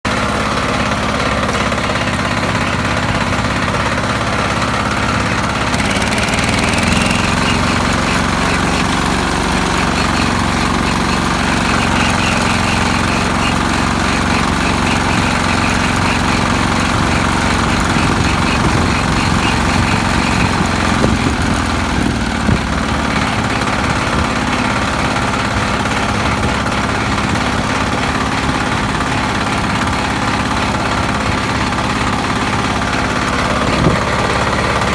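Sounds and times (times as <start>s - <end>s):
walk-behind tractor engine running: 0.0s - 34.9s.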